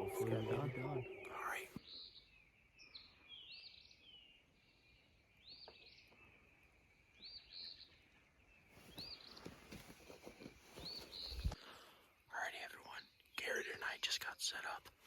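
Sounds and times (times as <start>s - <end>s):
faint songbird calls: 0.0s - 15.0s.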